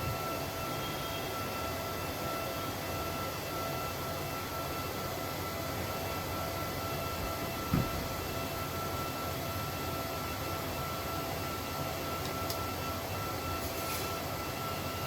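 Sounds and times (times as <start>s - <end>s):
mechanical drone with whine: 0.0s - 15.0s.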